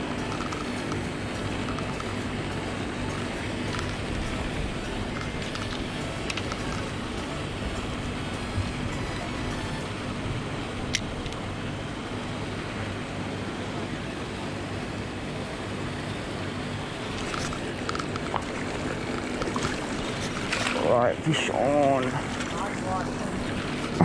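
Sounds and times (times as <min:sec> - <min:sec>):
churning water: 0:00.0 - 0:24.0
motor hum: 0:00.0 - 0:24.0.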